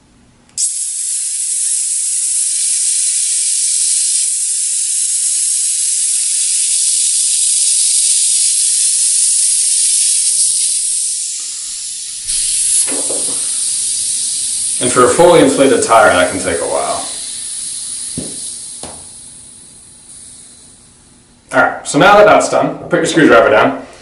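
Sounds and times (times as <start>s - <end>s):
air hissing from tyre valve: 0.6s - 21.0s.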